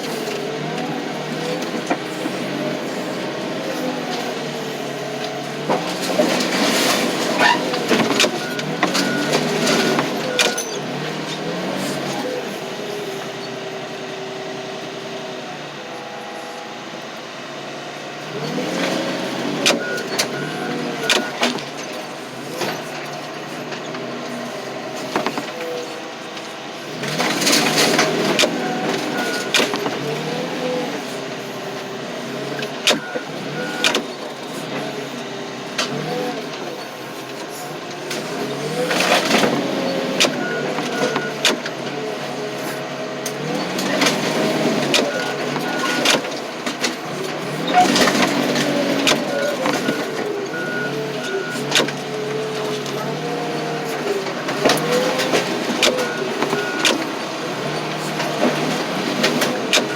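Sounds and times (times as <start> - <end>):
truck body crushed with cracks and bangs: 0.0 - 13.4, 18.4 - 59.9
crushing machine engine under load: 0.0 - 13.9, 18.3 - 59.9.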